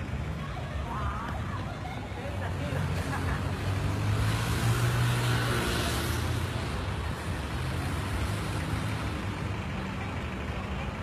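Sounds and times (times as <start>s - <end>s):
traffic hum: 0.0s - 11.0s
vehicle engine rumble passing: 0.0s - 11.0s.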